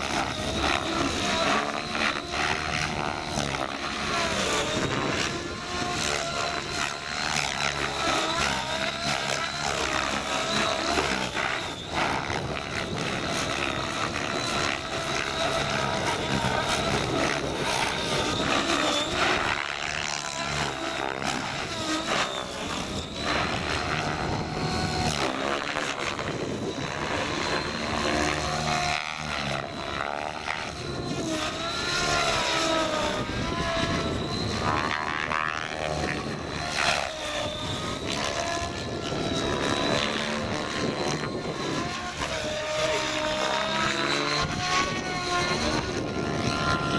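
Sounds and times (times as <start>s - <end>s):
model helicopter rotor whine: 0.0s - 46.9s.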